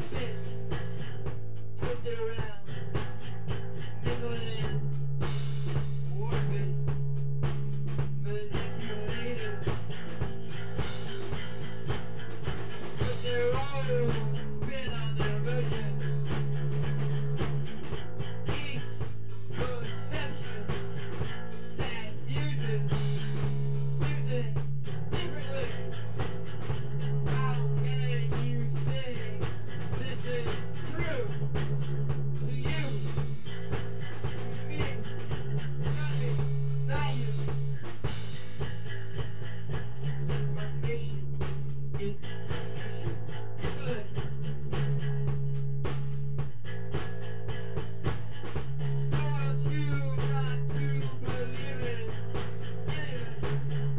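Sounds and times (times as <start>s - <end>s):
bass notes: 0.0s - 53.9s
drum beat: 0.0s - 53.9s.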